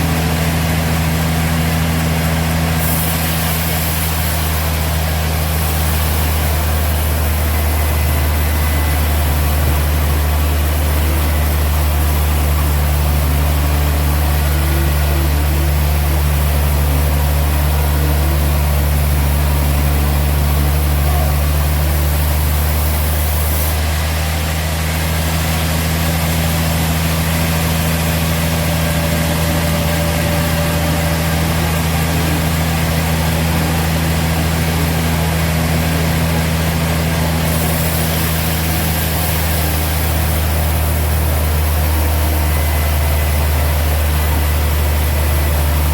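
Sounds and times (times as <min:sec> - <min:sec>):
sawmill machinery droning: 0:00.0 - 0:45.9.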